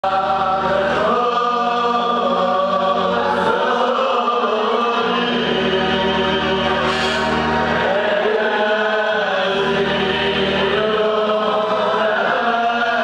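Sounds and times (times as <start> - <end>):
men singing in unison: 0.0 - 13.0.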